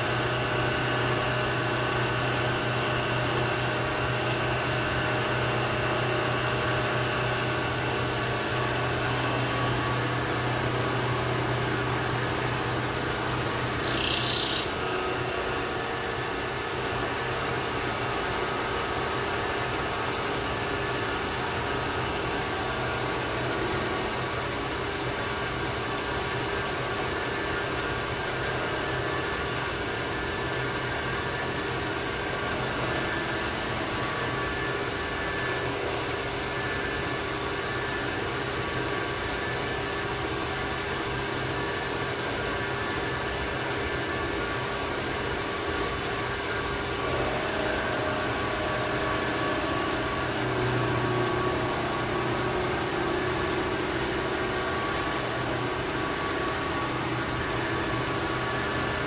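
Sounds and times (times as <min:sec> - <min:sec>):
milling machine hum and whine: 0:00.0 - 0:59.0.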